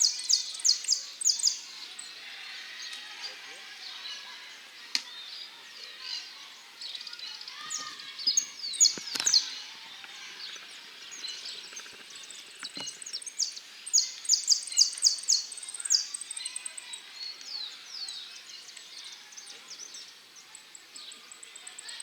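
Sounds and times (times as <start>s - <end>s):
other birds chirping: 0.0s - 22.0s.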